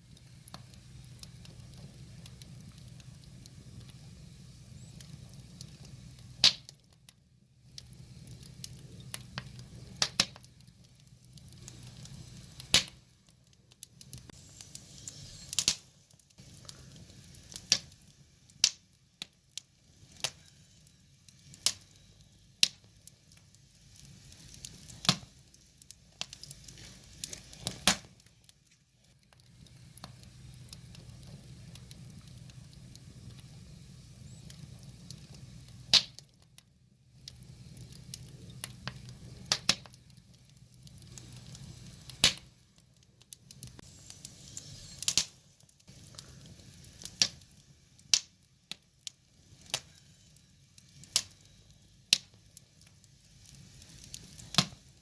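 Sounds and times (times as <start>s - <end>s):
low rush of flame: 0.0s - 55.0s
wood fire crackling and popping: 0.0s - 55.0s.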